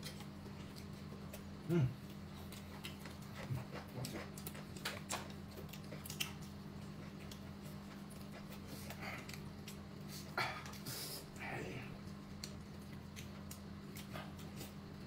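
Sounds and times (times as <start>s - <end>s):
chewing: 0.0s - 15.0s
steady low hum: 0.0s - 15.0s.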